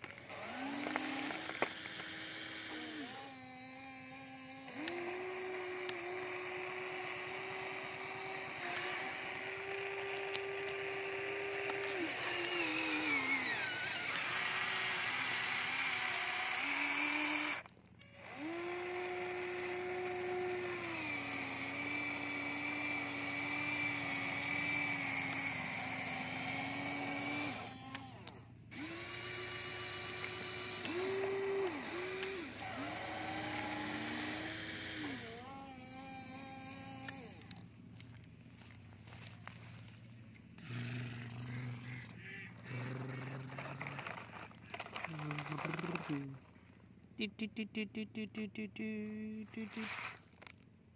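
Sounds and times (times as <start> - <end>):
toy excavator motors whining: 0.0 - 50.6.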